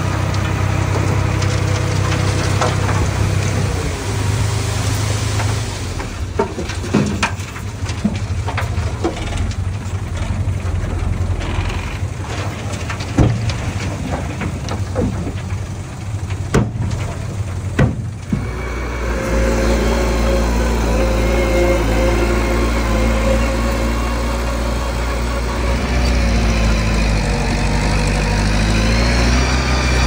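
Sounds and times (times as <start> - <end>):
bulldozer diesel engine: 0.0 - 30.0
metal and rock clanking: 5.3 - 30.0.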